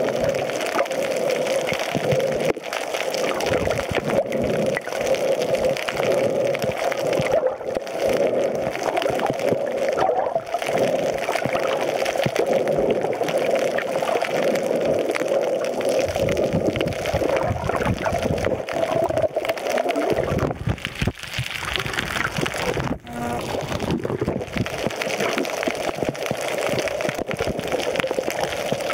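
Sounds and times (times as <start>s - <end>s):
water gurgling and sloshing: 0.0s - 28.9s.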